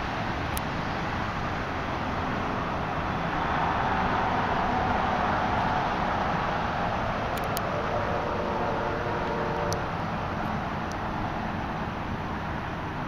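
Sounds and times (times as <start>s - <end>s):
outdoor background rush: 0.0s - 13.0s.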